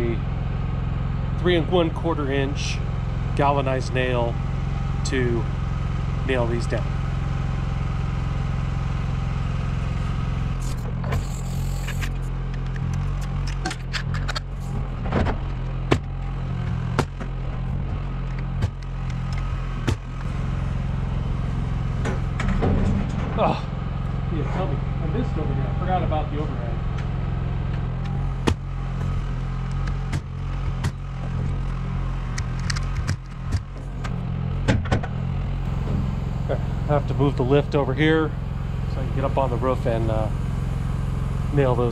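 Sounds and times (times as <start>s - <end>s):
low motor hum: 0.0s - 41.9s.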